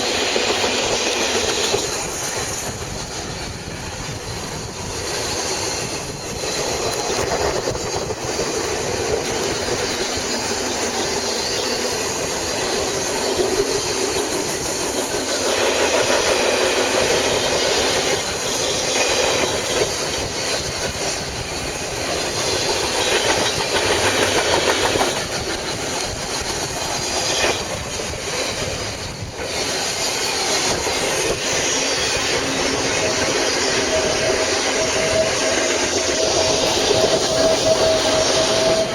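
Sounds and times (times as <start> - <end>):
freight train passing: 0.0 - 38.9
wheels clattering over rail joints: 0.0 - 38.9.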